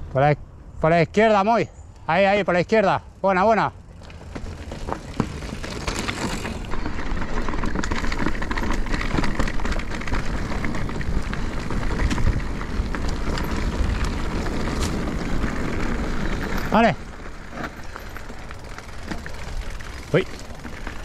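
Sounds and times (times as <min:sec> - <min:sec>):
mountain bike tyre rumble: 0:02.1 - 0:21.0
bike knocks and rattles: 0:04.0 - 0:21.0.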